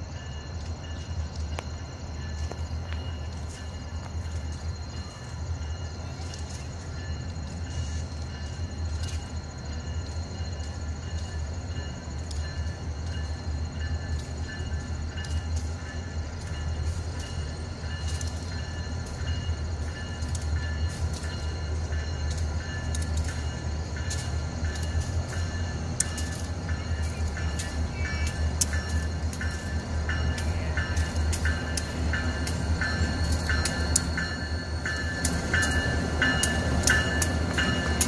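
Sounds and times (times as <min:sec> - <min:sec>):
diesel locomotive engine rumble: 0:00.0 - 0:38.0
train clicks: 0:00.0 - 0:38.0.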